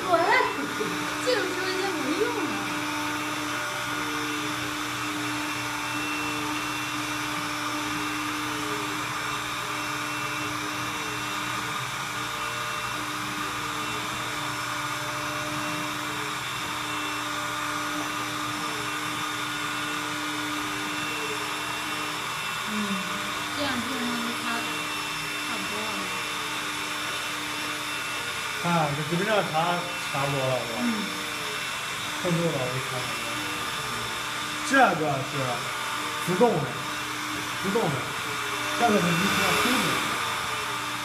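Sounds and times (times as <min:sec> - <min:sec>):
robot suction fan whirring: 0:00.0 - 0:41.0.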